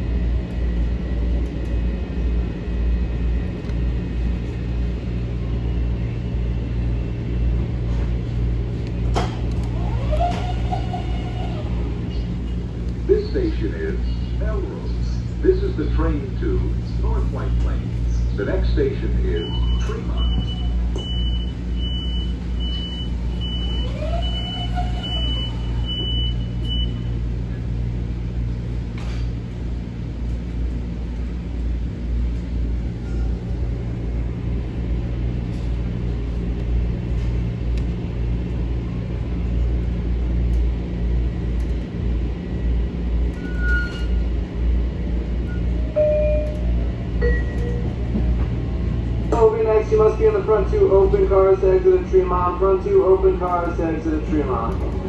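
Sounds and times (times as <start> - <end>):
train rumble and hum: 0.0 - 55.0.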